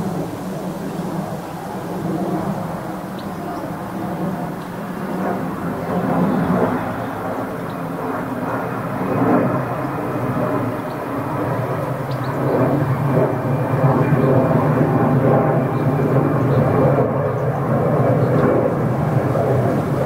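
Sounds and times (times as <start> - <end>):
distant engines rumbling: 0.0 - 20.0.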